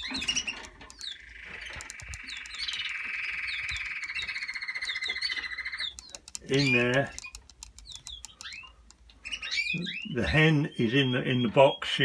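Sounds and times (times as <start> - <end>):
canary rattling trill: 0.0 - 10.2
high bird chirps: 0.0 - 11.9.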